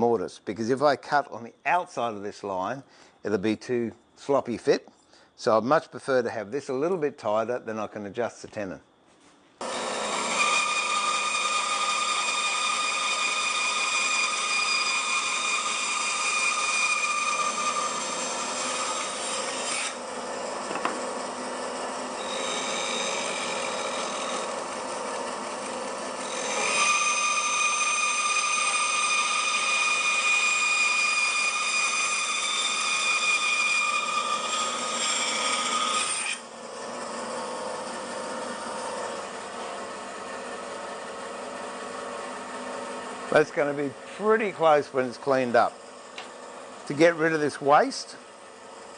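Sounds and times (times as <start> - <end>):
bandsaw cutting wood: 9.6 - 48.9.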